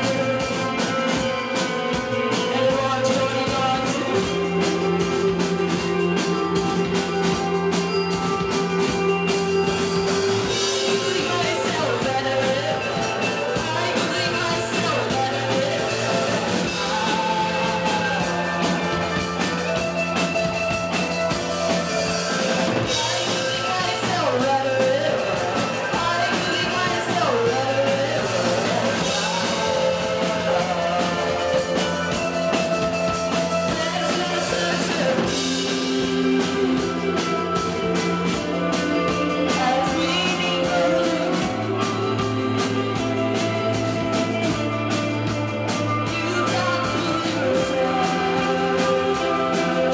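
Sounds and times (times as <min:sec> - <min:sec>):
bass guitar: 0:00.0 - 0:49.9
drum kit: 0:00.0 - 0:49.9
electric guitars: 0:00.0 - 0:49.9
person singing: 0:00.0 - 0:49.9.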